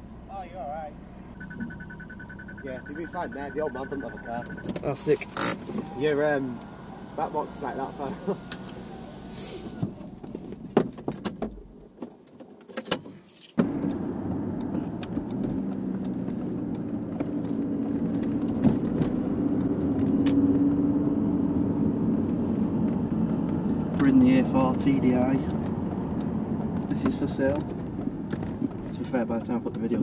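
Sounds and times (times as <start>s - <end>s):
car cabin engine and road hum: 0.0s - 30.0s.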